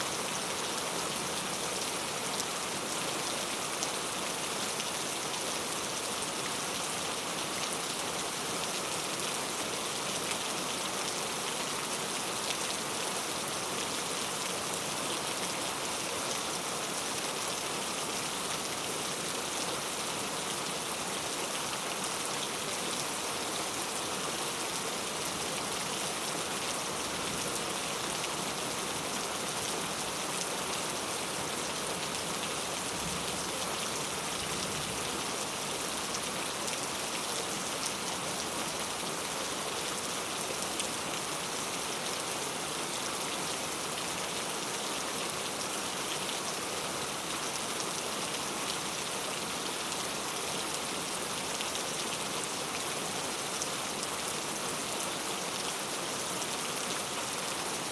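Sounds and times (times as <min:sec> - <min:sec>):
heavy rain on street: 0:00.0 - 0:57.9.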